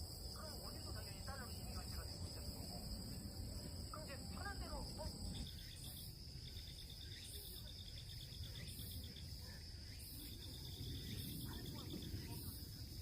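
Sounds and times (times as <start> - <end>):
insects chirping: 0.0 - 13.0
rapid insect trills: 0.0 - 13.0.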